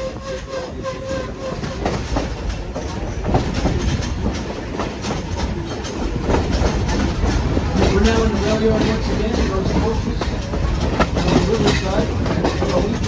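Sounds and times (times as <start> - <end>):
train rumbling on track: 0.0 - 13.0
wheels clacking over rails: 0.0 - 13.0.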